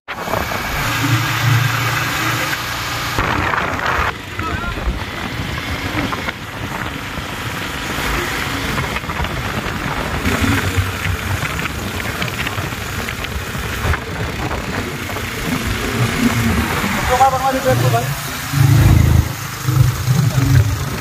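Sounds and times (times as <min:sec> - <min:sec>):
motorcycle engine rumble: 0:00.1 - 0:21.0
wind rushing over microphone: 0:03.1 - 0:21.0.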